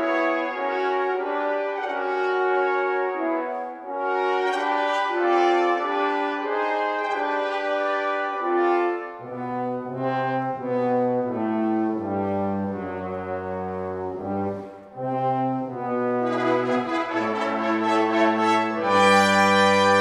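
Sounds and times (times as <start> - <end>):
brass ensemble playing chords: 0.0 - 20.0
tuba bass line: 0.0 - 20.0.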